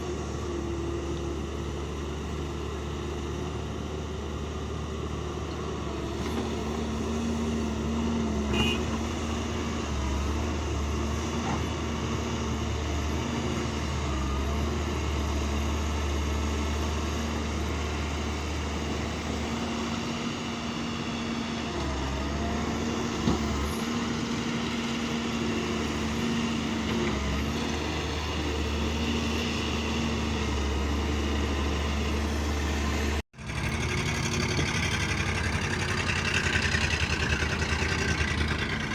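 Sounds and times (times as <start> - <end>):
heavy machine engine running: 0.0 - 38.9.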